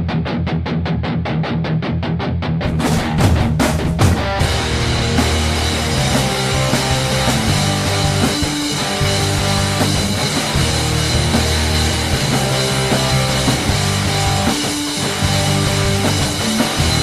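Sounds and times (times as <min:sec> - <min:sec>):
bass: 0:00.0 - 0:17.0
distorted electric guitars: 0:00.0 - 0:17.0
drum kit: 0:02.6 - 0:17.0.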